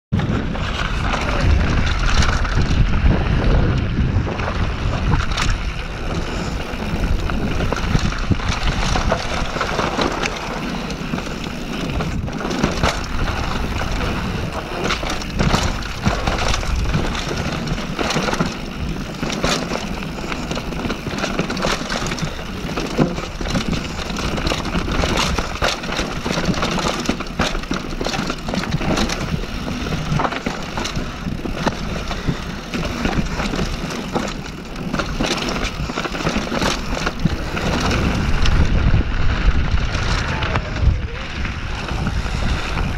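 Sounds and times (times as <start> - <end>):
bike rattling and knocking: 0.1 - 42.9
wind noise: 0.1 - 42.9
bike tyres crunching over stones: 0.2 - 42.9.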